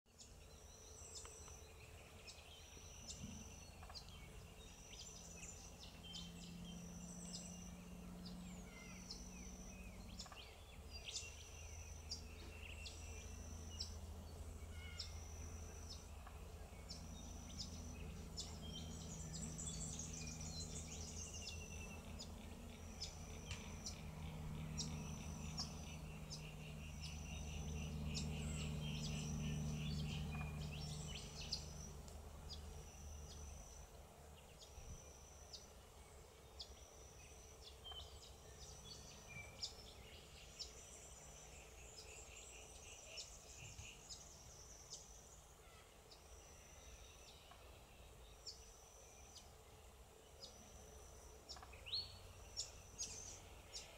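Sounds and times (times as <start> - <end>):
faint bird twittering: 0.1 - 53.9
steady low hum: 0.2 - 53.9.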